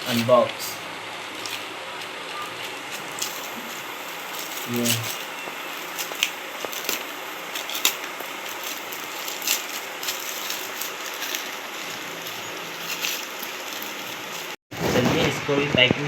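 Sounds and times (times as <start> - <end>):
packaging crinkling and crackling: 0.0 - 15.3.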